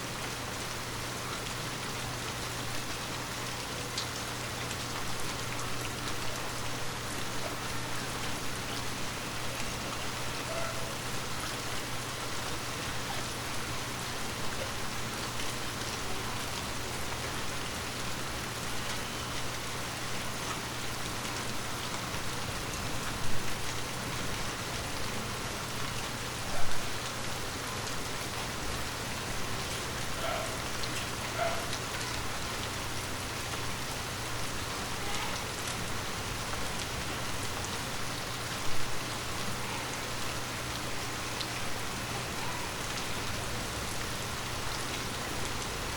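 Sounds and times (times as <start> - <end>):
light rain falling: 0.0 - 45.9.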